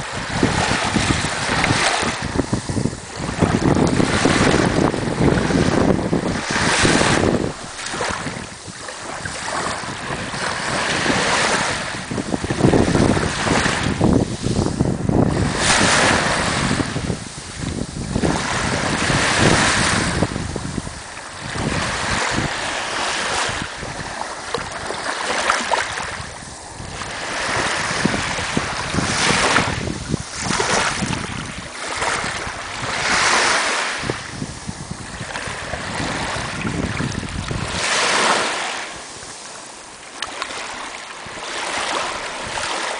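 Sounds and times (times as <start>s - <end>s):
small waves washing over sand: 0.0s - 42.9s
wind buffeting microphone: 0.0s - 42.9s.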